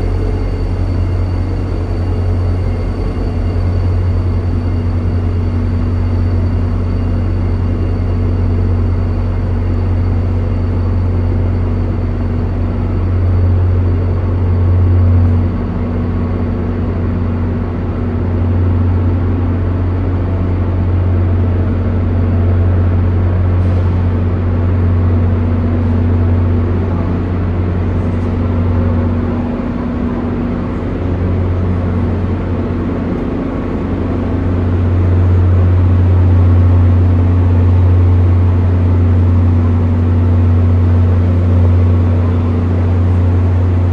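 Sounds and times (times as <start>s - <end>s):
heavy vehicle engine droning: 0.0s - 43.9s.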